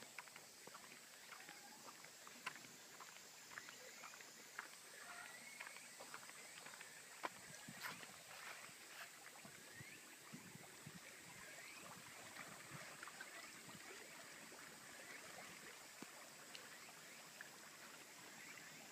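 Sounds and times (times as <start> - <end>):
small waves lapping: 0.0 - 18.9.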